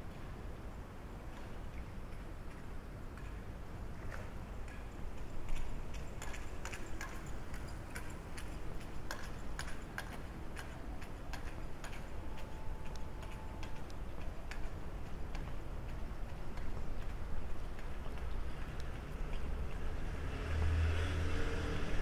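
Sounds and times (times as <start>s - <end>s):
low town background hum: 0.0s - 22.0s.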